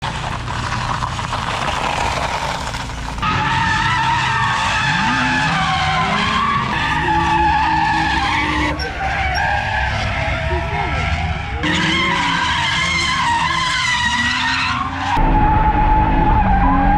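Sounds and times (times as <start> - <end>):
car engine revving: 0.0 - 16.9
tyres squealing: 1.7 - 16.9.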